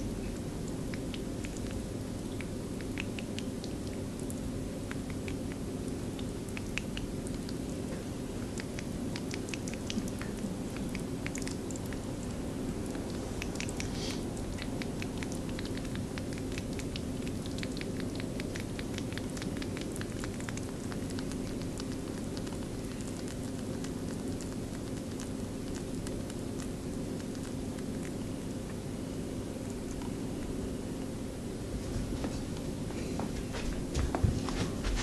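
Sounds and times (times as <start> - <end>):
rabbit lapping: 0.0 - 30.8.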